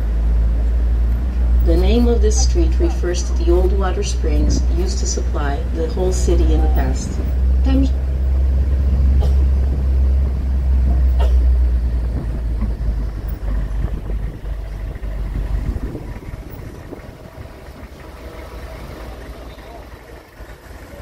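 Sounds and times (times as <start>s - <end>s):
road train rumbling: 0.0s - 21.0s.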